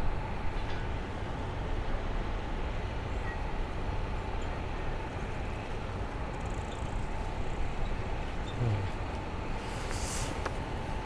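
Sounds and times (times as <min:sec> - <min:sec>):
faint constant hum: 0:00.0 - 0:11.0
low city rumble: 0:00.0 - 0:11.0.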